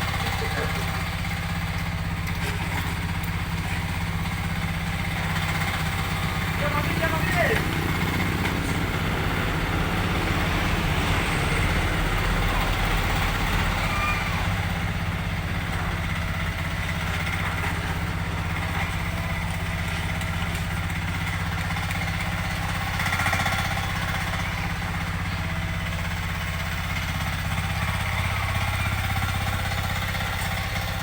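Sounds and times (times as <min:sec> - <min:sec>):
mini excavator engine running: 0:00.0 - 0:31.0.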